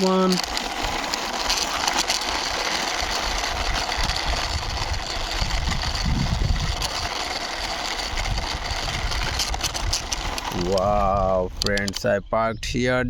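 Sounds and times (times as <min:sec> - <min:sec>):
plastic toy wheels rolling: 0:00.0 - 0:12.6.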